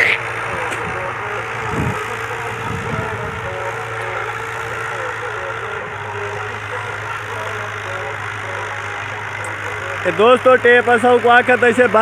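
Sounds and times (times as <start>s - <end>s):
tractor diesel engine: 0.0s - 12.0s.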